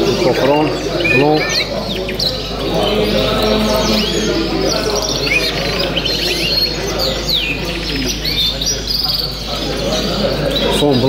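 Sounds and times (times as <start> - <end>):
canaries chirping: 0.0 - 11.0
people talking: 0.0 - 11.0.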